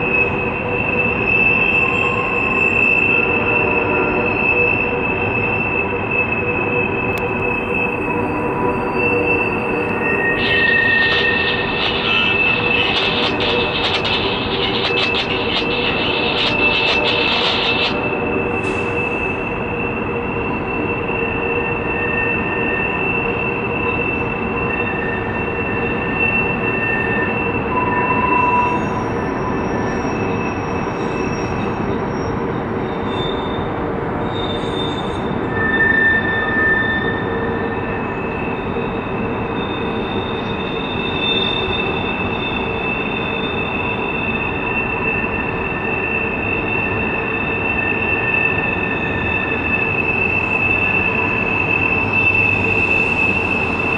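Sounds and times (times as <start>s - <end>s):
rumble of train wheels: 0.0s - 53.9s
wheel flanges squealing on rails: 0.0s - 53.9s.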